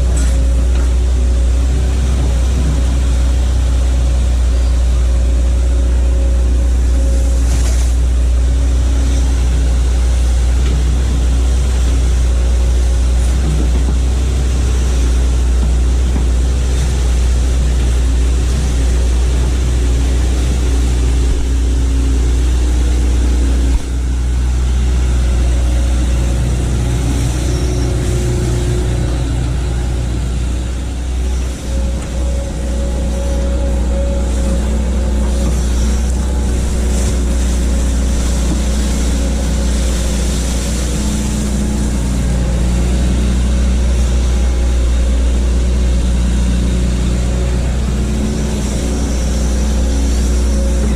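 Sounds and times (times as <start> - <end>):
excavator diesel engine rumbling: 0.0 - 50.9.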